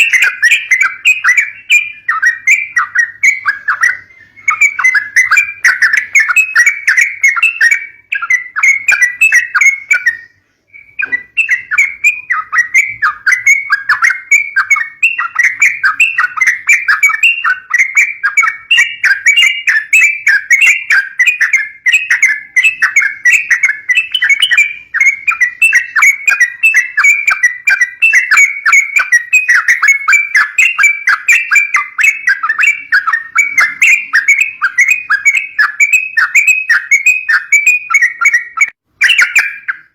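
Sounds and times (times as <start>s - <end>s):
bulbul chattering call: 0.0s - 39.9s.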